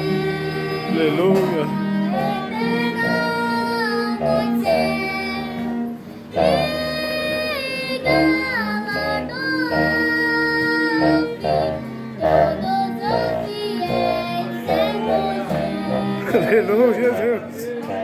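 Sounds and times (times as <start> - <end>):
child singing a hymn: 0.0 - 17.0.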